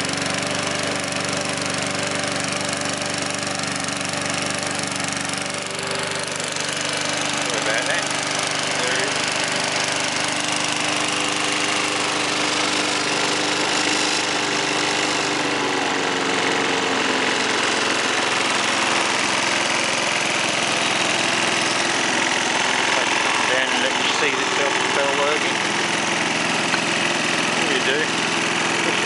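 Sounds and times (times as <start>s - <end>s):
lawnmower engine running: 0.0s - 29.0s.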